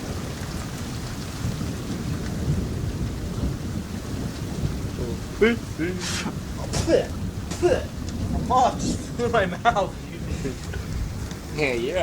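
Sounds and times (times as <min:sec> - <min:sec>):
heavy rain falling: 0:00.0 - 0:12.0
rolling thunder rumble: 0:00.0 - 0:12.0.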